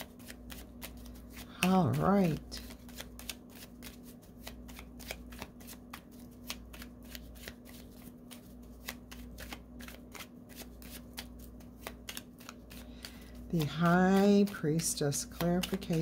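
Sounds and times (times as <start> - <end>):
cards being shuffled: 0.0 - 16.0
faint hum: 0.0 - 16.0.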